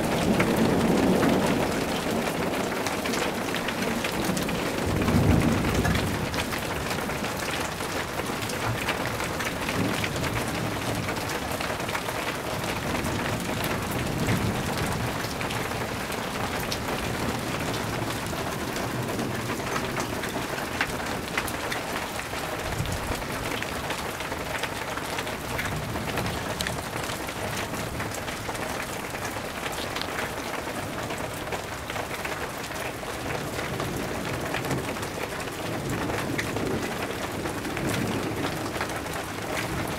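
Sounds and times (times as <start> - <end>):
low rumble of thunder: 0.0 - 39.9
steady rain falling: 0.0 - 39.9.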